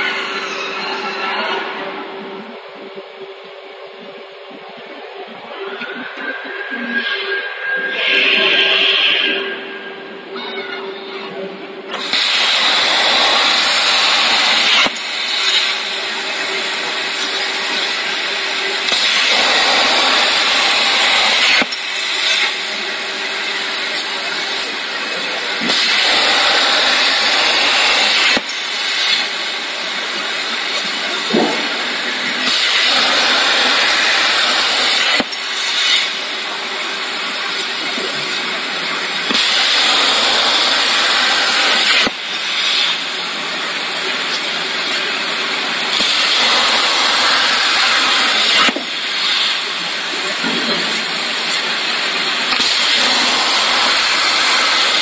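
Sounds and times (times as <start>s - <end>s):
plasma cutter arc hissing: 0.0s - 2.4s, 11.9s - 55.0s.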